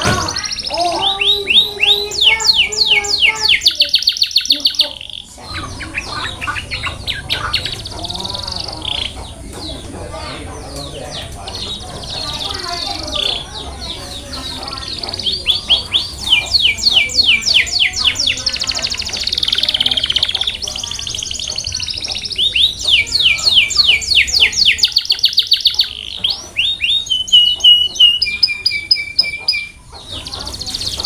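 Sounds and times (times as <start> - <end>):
canary singing: 0.0 - 31.0.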